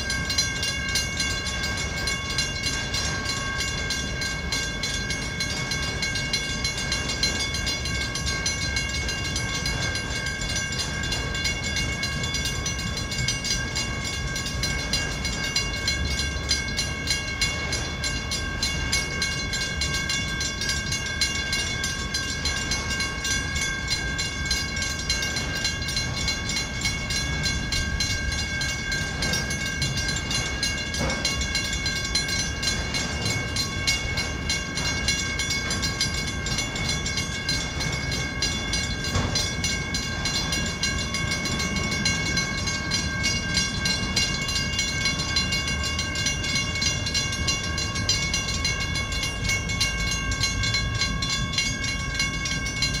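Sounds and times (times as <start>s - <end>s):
high ringing tones: 0.0s - 53.0s
train wheels rumbling on rail: 0.0s - 53.0s.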